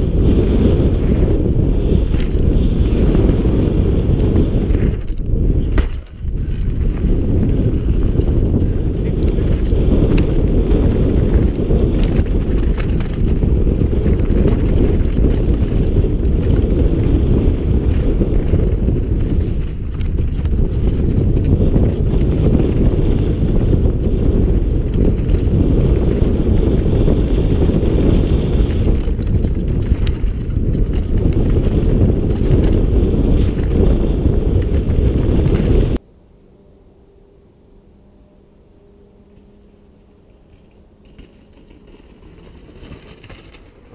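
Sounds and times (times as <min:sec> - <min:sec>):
stones and bike rattling: 0:00.0 - 0:36.0, 0:40.1 - 0:43.9
tyres on gravel: 0:00.0 - 0:36.0, 0:40.1 - 0:43.9
wind on microphone: 0:00.0 - 0:36.0.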